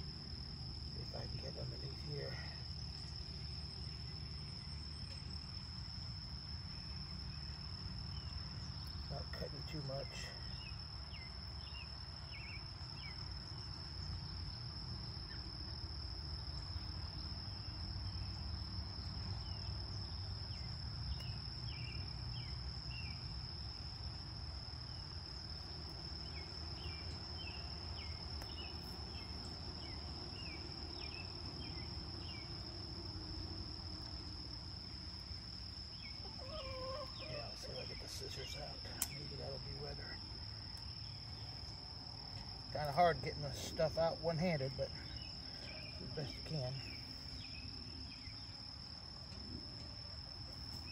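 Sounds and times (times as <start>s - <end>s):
high-pitched insect chorus: 0.0s - 50.9s.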